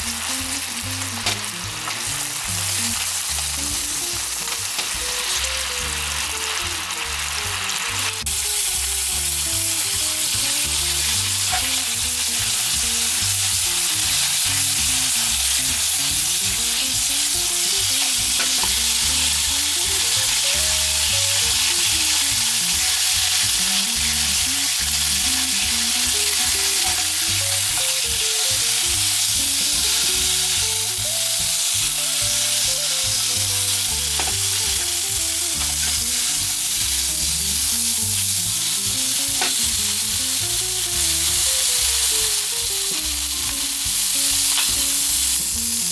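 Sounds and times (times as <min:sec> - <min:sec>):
frying pan being shaken: 0:00.0 - 0:45.9
sausages sizzling in a frying pan: 0:00.0 - 0:45.9.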